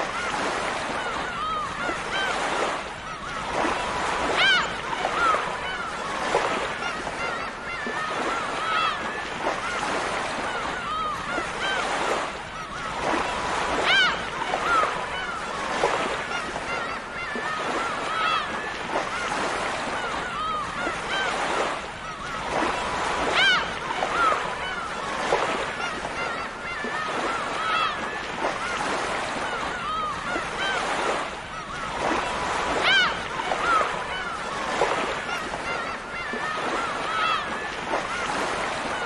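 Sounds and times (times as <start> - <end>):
gulls calling: 0.0 - 39.0
surf washing: 0.0 - 39.0.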